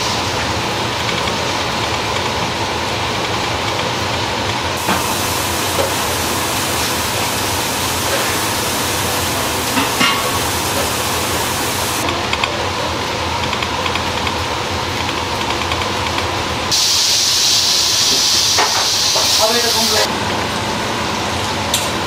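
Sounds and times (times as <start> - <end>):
rushing kitchen noise: 0.0 - 22.0.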